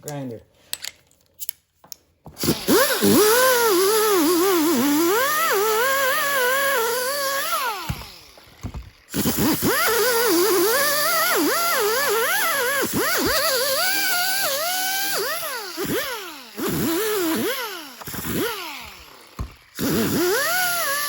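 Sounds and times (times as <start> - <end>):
electric grinder grinding foam: 2.3 - 21.0.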